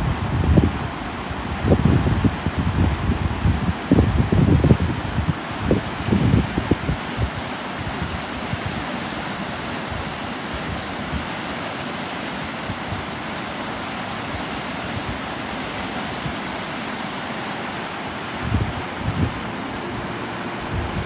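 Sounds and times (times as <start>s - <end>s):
fast-flowing water rushing: 0.0s - 21.0s.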